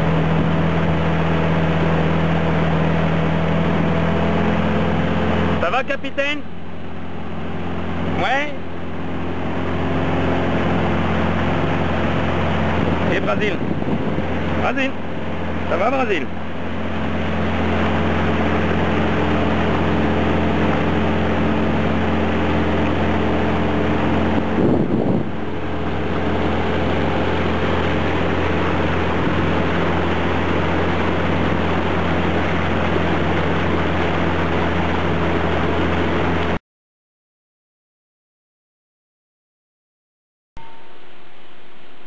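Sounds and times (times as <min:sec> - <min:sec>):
outboard motor droning: 0:00.0 - 0:36.6, 0:40.6 - 0:42.0
rushing air and water: 0:00.0 - 0:36.6.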